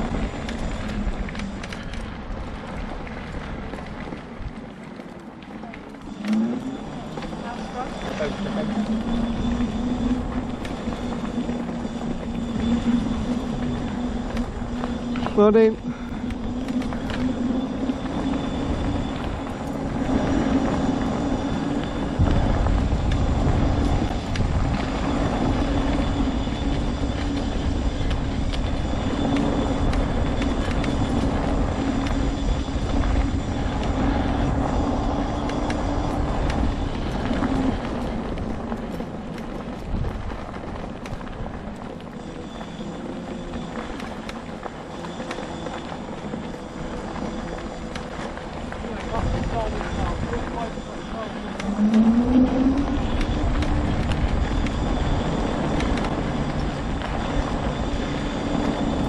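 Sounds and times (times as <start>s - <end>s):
electric scooter motor whine: 0.0s - 59.0s
low rumble: 0.0s - 59.0s.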